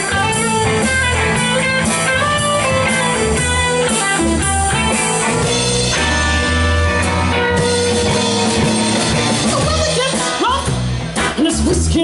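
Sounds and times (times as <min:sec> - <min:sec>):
bass guitar: 0:00.0 - 0:12.0
drum kit: 0:00.0 - 0:12.0
electric guitar lead: 0:00.0 - 0:12.0.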